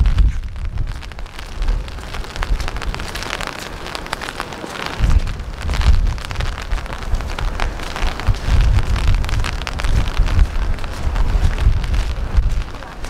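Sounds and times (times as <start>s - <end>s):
rain on plastic umbrella: 0.0s - 13.0s
wind rumble on microphone: 0.0s - 13.0s.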